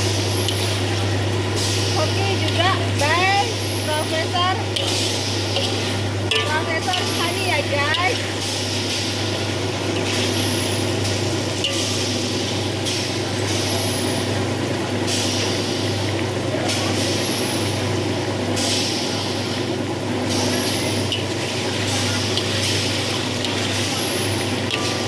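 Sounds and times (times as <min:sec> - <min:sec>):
steady low hum: 0:00.0 - 0:25.0
steam hissing in spurts: 0:00.0 - 0:25.0.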